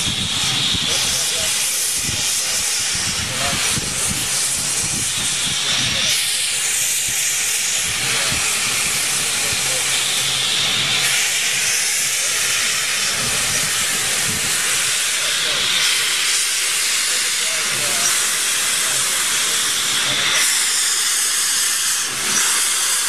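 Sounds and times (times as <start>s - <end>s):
loud hiss of venting steam: 0.0s - 23.0s
steam locomotive moving off: 0.0s - 23.0s.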